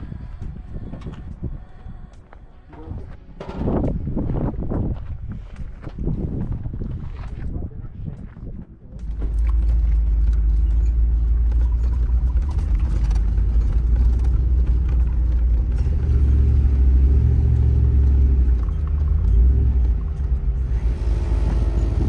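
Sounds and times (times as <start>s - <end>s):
engine and tyres rumbling: 0.0s - 22.0s.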